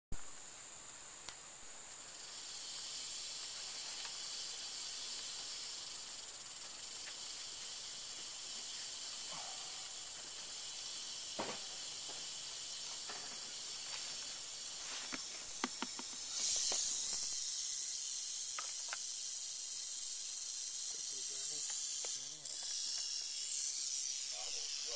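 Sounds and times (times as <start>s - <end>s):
rattlesnake rattling: 0.2s - 24.9s.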